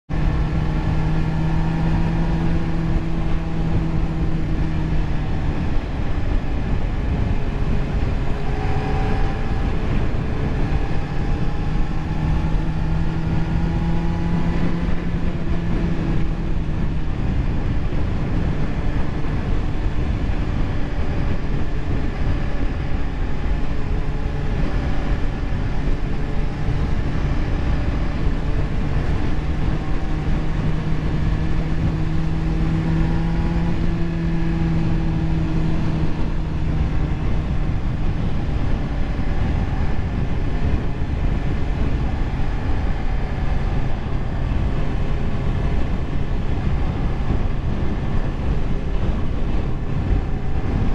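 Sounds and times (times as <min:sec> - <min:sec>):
motorcycle engine cruising: 0:00.0 - 0:50.9
wind and road noise: 0:00.0 - 0:50.9.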